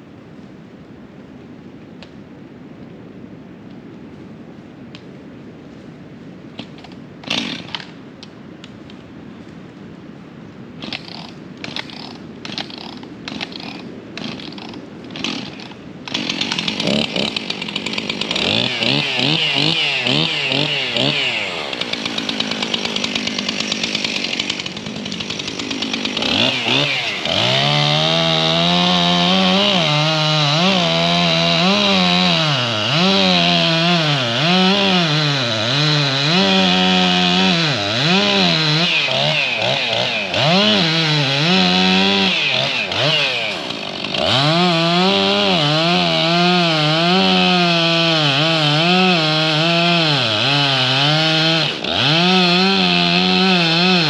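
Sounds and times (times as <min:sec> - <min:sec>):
chainsaw revving: 0:06.6 - 0:07.9, 0:10.8 - 0:54.0
chainsaw cutting wood: 0:06.6 - 0:08.0, 0:10.8 - 0:54.0.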